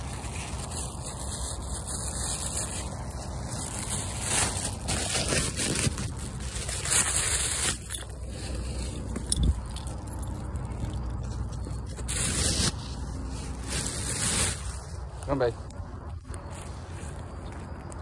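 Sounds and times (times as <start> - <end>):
footsteps in grass and dry leaves: 0.0 - 18.0.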